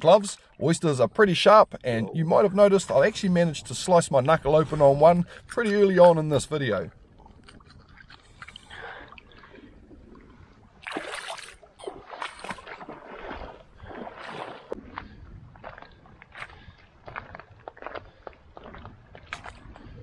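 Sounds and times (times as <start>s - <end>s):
sea water splashing: 2.3s - 20.0s.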